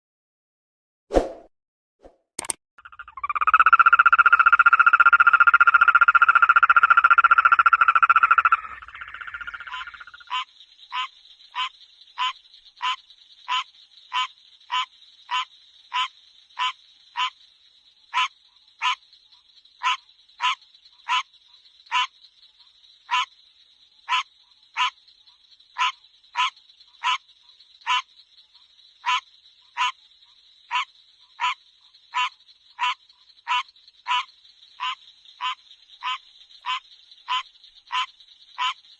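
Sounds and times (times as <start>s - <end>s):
frogs calling: 2.8s - 38.9s.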